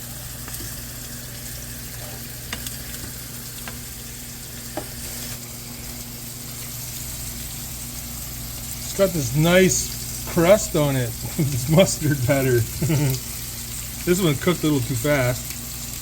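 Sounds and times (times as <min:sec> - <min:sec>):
fish fillets sizzling in oil: 0:00.0 - 0:16.0.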